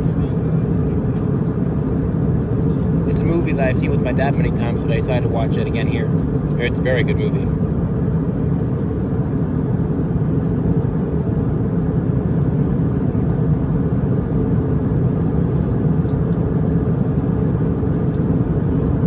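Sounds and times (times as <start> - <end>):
airliner cabin engine hum: 0.0 - 19.0.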